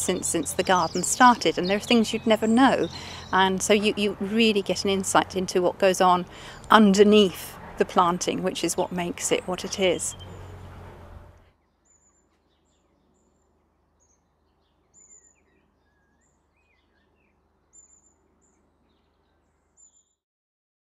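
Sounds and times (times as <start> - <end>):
birds chirping: 0.0 - 20.2.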